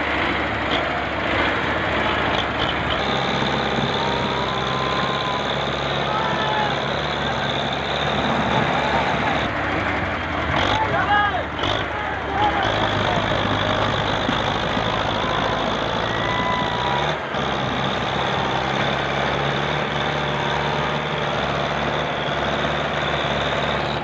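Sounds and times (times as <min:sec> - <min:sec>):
tractor engines under load: 0:00.0 - 0:24.0.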